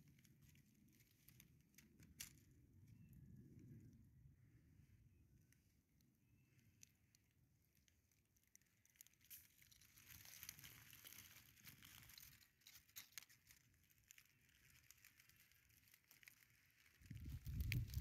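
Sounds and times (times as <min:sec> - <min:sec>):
faint crackling rustles: 0:00.0 - 0:04.6, 0:05.3 - 0:18.0.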